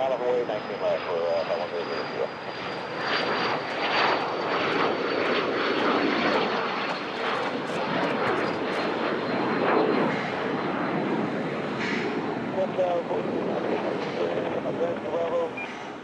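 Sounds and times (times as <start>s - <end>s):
aircraft engine rushing: 0.0s - 16.0s.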